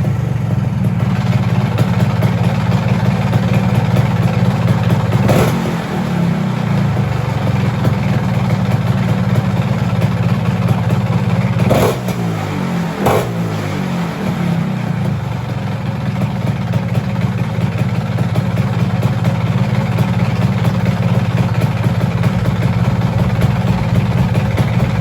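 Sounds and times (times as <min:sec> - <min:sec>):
scooter engine idling: 0:00.0 - 0:25.0.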